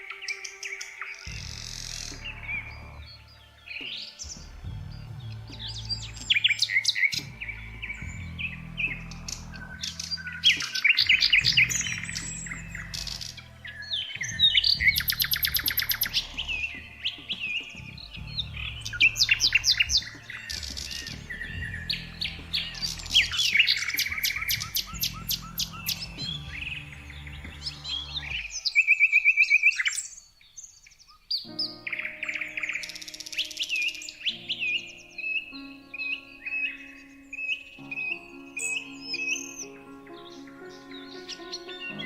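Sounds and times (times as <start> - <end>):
background music pad: 0.0 - 42.0
songbirds chirping and trilling: 0.0 - 42.0.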